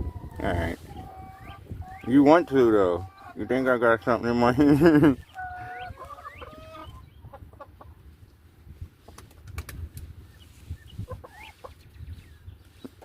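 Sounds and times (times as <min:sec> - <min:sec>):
chickens clucking: 0:00.0 - 0:08.4, 0:09.1 - 0:13.0.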